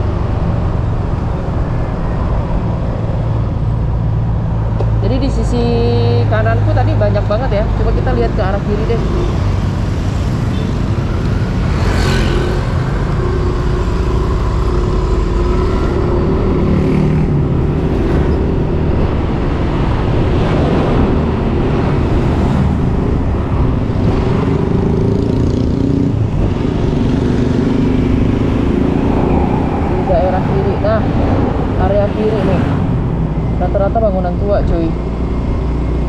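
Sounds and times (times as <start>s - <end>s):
passing traffic: 0.0s - 36.0s
wind and road noise: 0.0s - 36.0s.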